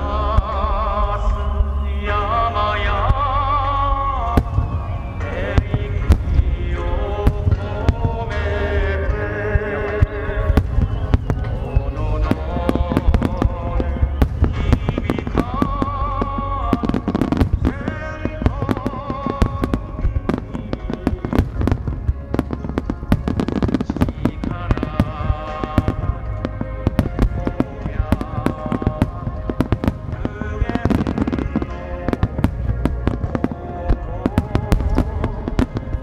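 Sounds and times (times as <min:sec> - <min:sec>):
fireworks bangs and crackles: 0:00.0 - 0:36.0
music with wavering melody: 0:00.0 - 0:36.0.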